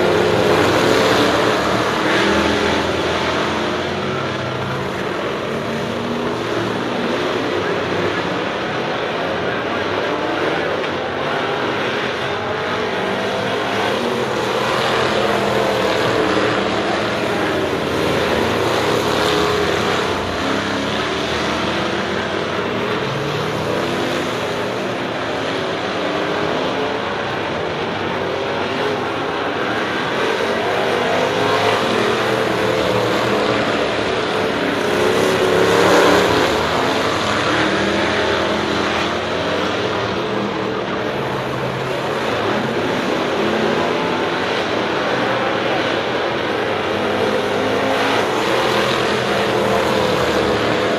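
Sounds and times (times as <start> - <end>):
race car engines: 0.0 - 50.9.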